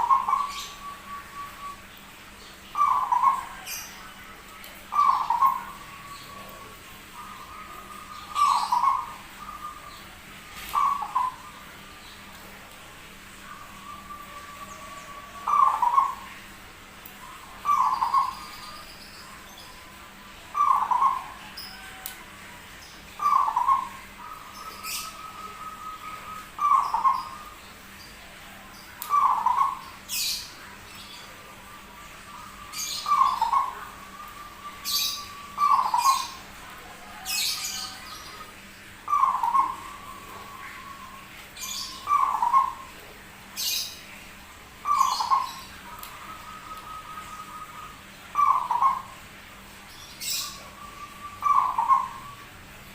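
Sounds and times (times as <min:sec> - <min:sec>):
dove cooing: 0:00.0 - 0:01.9, 0:02.7 - 0:11.9, 0:13.4 - 0:16.4, 0:17.2 - 0:27.6, 0:28.3 - 0:30.5, 0:31.3 - 0:43.0, 0:44.8 - 0:49.2, 0:50.2 - 0:52.4.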